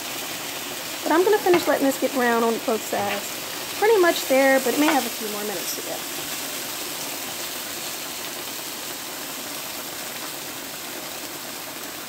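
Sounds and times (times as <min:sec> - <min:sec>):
chicken sizzling in a hot pan: 0:00.0 - 0:12.0.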